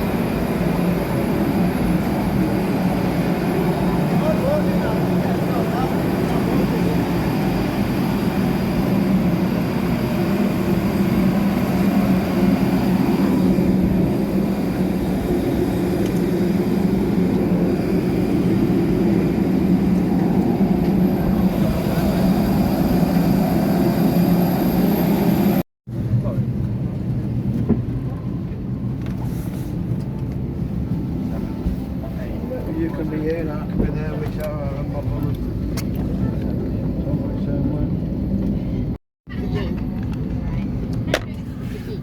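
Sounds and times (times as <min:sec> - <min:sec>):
aircraft cabin droning hum: 0:00.1 - 0:24.0, 0:25.3 - 0:42.0.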